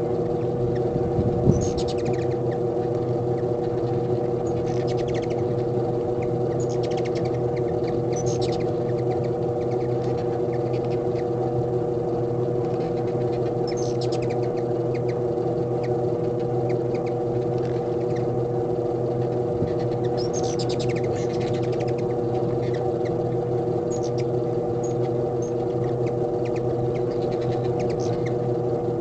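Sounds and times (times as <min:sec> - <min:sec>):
hummingbirds chittering: 0:00.0 - 0:29.0
steady low hum: 0:00.0 - 0:29.0.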